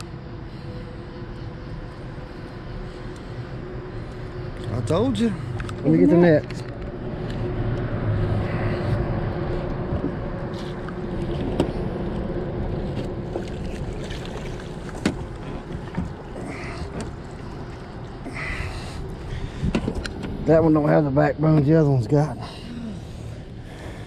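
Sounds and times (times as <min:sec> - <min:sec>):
faint boat hum: 0:00.0 - 0:24.0.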